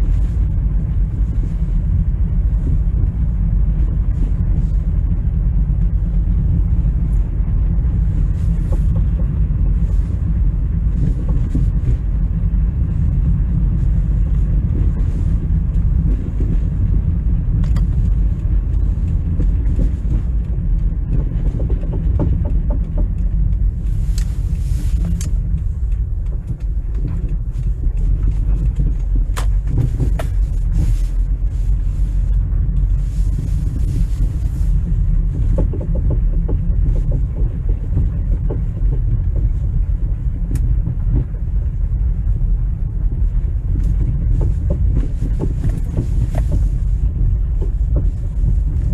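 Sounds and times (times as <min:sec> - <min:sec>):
car road rumble: 0:00.0 - 0:48.9.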